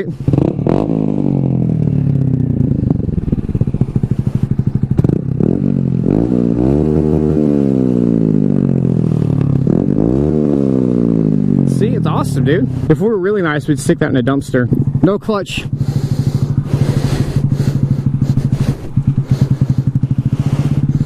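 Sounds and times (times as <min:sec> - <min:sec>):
small motorcycle engine revving: 0:00.0 - 0:21.0.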